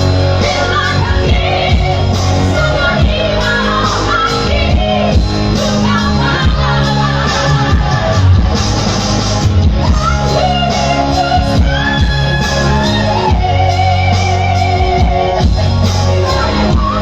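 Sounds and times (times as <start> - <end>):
band accompaniment: 0.0 - 17.0
woman singing: 0.2 - 8.4, 9.9 - 15.4, 16.1 - 17.0.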